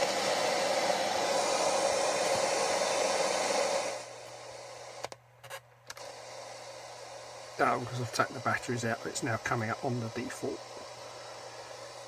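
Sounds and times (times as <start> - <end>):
radio static hiss: 0.0 - 5.2, 5.9 - 12.0.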